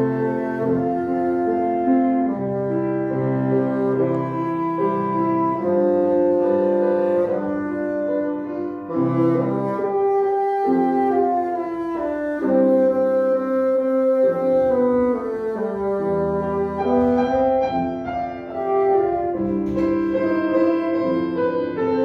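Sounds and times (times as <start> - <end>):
bassoon playing slow melody: 0.0 - 22.0
piano accompaniment: 0.0 - 22.0.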